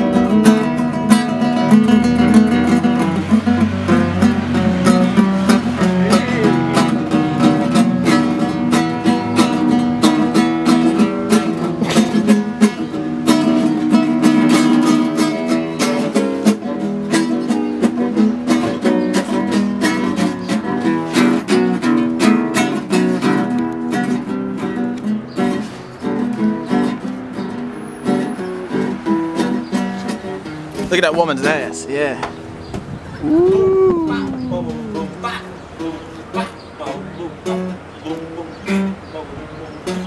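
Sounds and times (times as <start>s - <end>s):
classical guitar fingerstyle: 0.0s - 40.0s.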